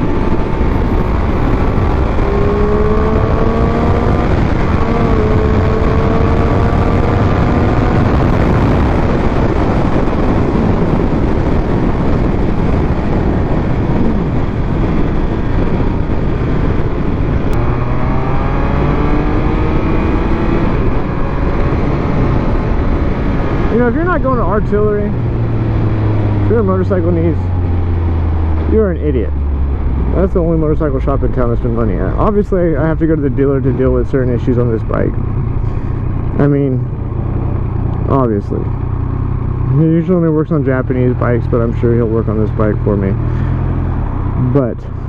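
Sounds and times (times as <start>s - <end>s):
motorcycle engine accelerating: 0.0s - 45.0s
wind rush on microphone: 0.0s - 45.0s.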